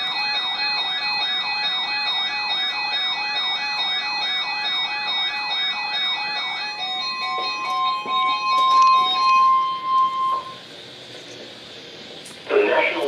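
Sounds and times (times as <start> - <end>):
warbling alert siren: 0.0 - 10.7
steady higher tones: 0.0 - 11.8.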